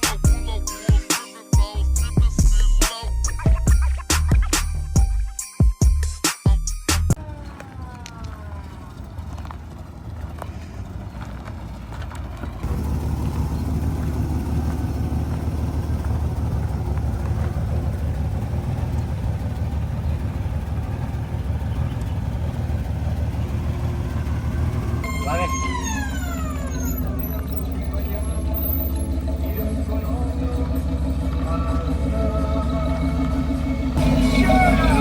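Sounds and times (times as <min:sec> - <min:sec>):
vehicle engine rumbling: 0:00.0 - 0:00.9, 0:01.6 - 0:05.4, 0:06.0 - 0:35.0.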